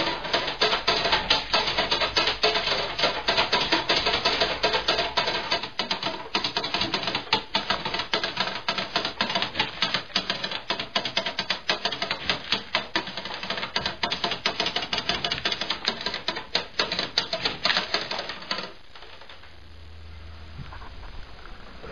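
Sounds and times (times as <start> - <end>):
exercise wheel clattering: 0.0 - 19.4.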